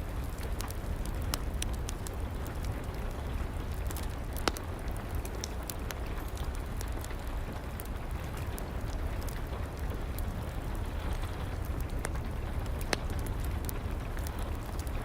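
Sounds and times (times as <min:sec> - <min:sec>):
steady rain: 0:00.0 - 0:15.0
wood fire crackling and popping: 0:00.0 - 0:15.0.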